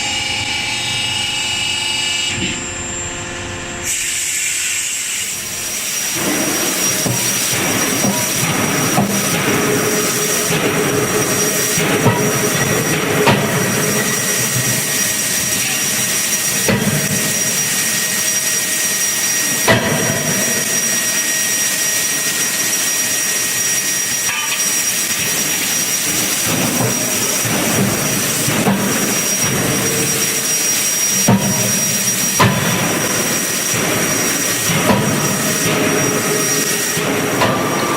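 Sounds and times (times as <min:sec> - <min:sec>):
constant high whine: 0:00.0 - 0:37.9
machinery hiss and hum: 0:00.0 - 0:37.9.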